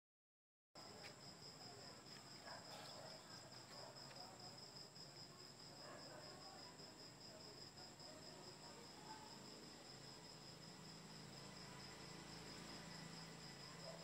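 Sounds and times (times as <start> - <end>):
faint crickets chirping: 0.8 - 14.0.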